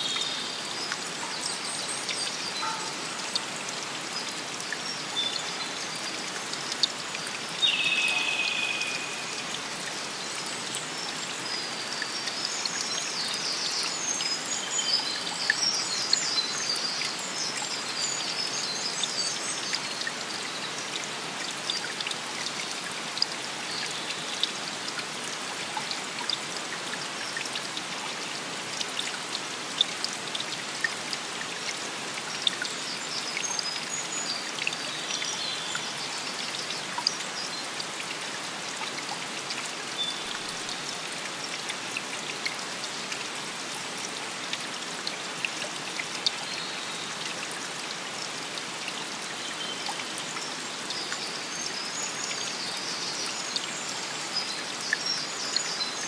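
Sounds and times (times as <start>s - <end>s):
rushing water: 0.0s - 56.0s
water drips and splashes: 0.0s - 56.0s.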